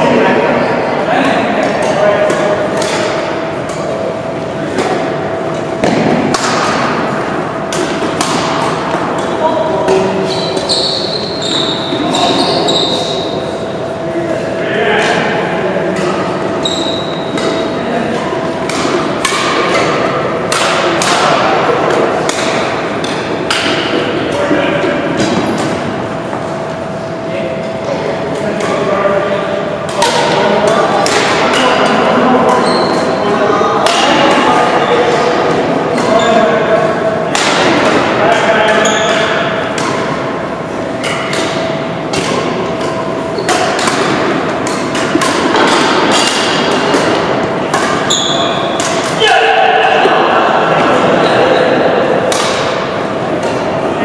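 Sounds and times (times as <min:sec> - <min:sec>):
echoing hubbub of play: 0:00.0 - 0:54.0
rackets hitting shuttlecock: 0:01.6 - 0:13.7, 0:15.0 - 0:26.9, 0:29.8 - 0:33.2, 0:33.8 - 0:53.9.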